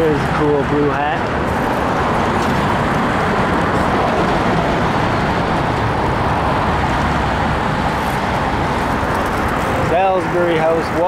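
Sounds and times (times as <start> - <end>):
car traffic passing: 0.0 - 11.0
wind buffeting microphone: 0.0 - 11.0.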